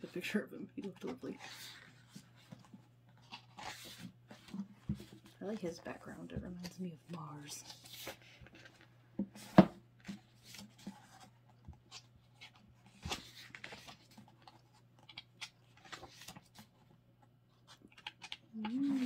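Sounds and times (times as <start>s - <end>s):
book pages turning: 0.8s - 19.0s.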